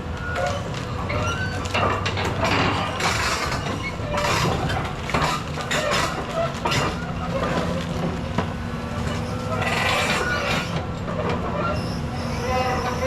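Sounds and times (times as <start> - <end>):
diesel engine running: 0.0 - 13.0
steel tracks clanking and squeaking: 0.0 - 13.0.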